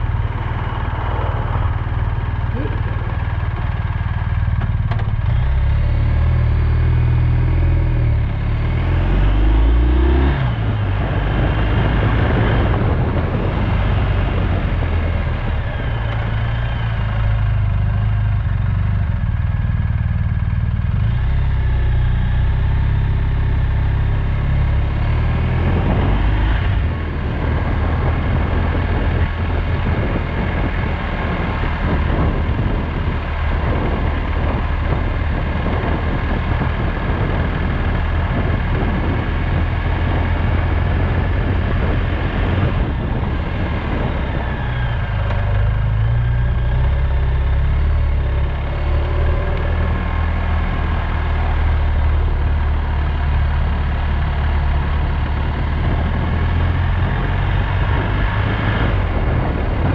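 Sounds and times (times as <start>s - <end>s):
motorcycle engine accelerating: 0.0s - 59.9s
road noise: 0.0s - 59.9s
wind noise: 0.0s - 59.9s.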